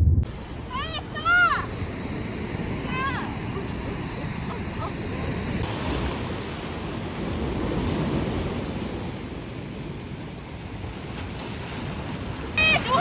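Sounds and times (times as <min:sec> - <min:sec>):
sea surf breaking over rocks: 0:00.2 - 0:13.0.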